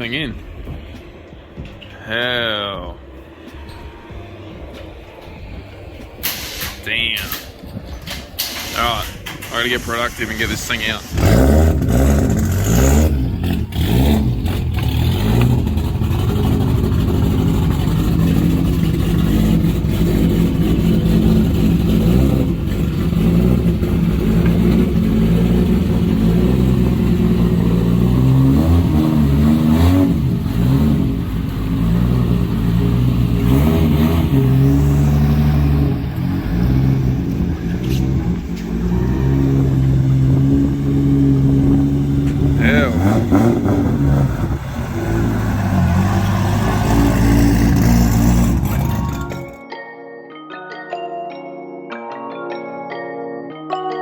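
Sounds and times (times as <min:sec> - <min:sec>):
car engine revving: 0:00.0 - 0:49.6.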